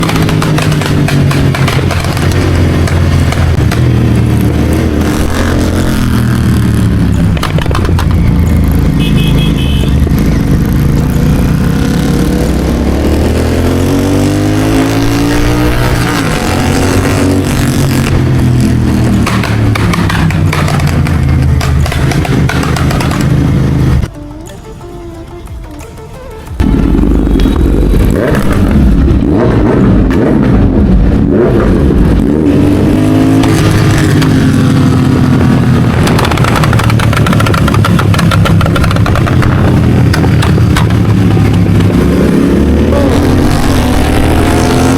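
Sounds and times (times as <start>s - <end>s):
motorcycle engine revving: 0.0s - 24.1s, 26.6s - 44.9s.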